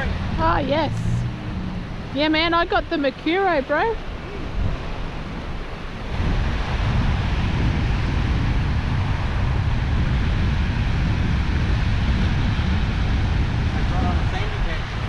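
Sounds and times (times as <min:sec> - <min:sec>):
wind and surf hiss: 0:00.0 - 0:15.0
wind buffeting microphone: 0:00.0 - 0:15.0.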